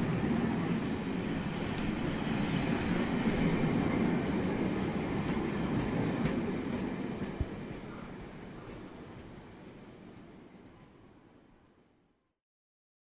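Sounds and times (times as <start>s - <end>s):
steam train rumbling on track: 0.0s - 11.5s.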